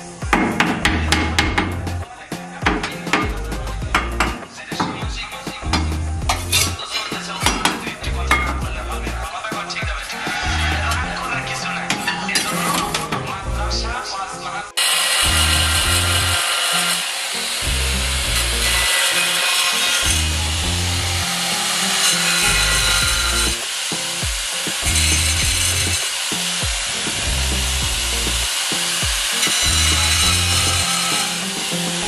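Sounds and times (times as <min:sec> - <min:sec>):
background music: 0:00.0 - 0:32.0
angle grinder cutting tile: 0:02.6 - 0:13.4, 0:14.8 - 0:32.0.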